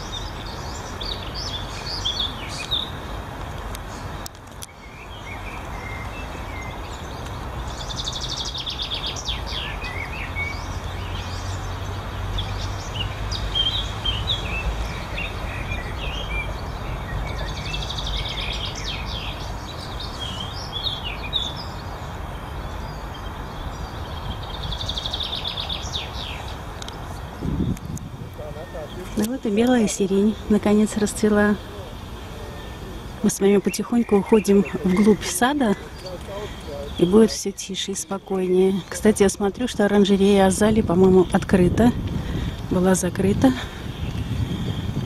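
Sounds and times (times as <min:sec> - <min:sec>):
distant city traffic rumble: 0:00.0 - 0:45.0
songbirds singing: 0:00.0 - 0:45.0.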